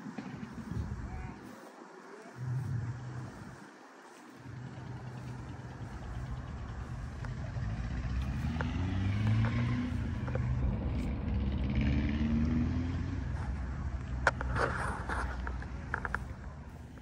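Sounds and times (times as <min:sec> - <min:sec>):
car engine revving: 0:02.4 - 0:17.0.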